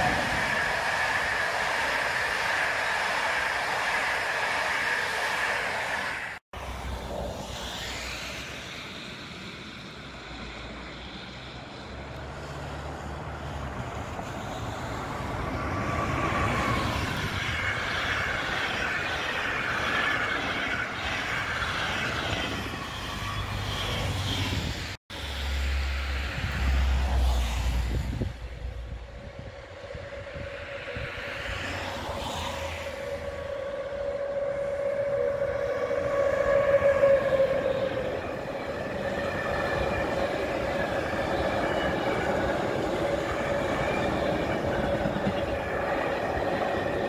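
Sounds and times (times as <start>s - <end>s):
freight train low rumble: 0.0s - 47.0s
passenger train rushing past: 0.0s - 47.0s.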